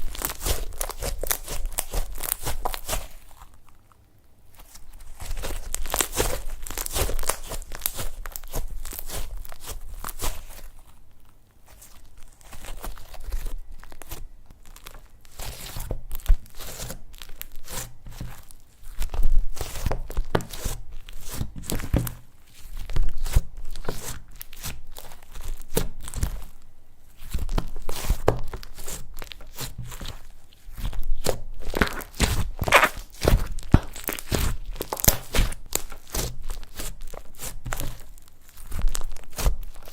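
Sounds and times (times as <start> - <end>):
slime squishing and crackling: 0.0 - 39.9.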